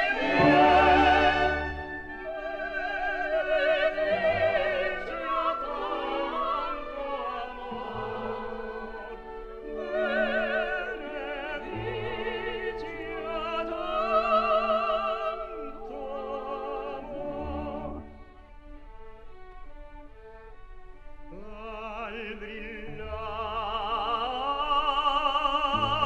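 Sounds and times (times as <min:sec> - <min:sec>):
operatic voice singing: 0:00.0 - 0:18.0, 0:21.4 - 0:26.0
orchestral accompaniment: 0:00.0 - 0:23.7.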